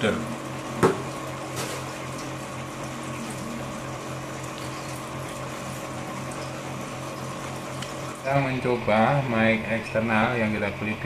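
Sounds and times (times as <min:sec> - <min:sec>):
filter pump motor hum: 0:00.0 - 0:11.0.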